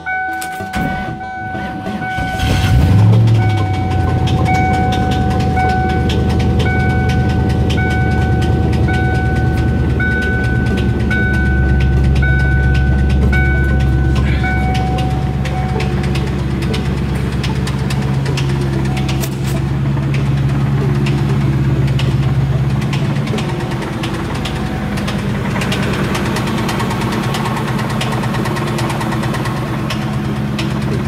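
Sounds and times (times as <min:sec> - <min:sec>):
dashboard warning chime beeping: 0:00.0 - 0:25.4
car engine idling with knock: 0:00.0 - 0:31.0.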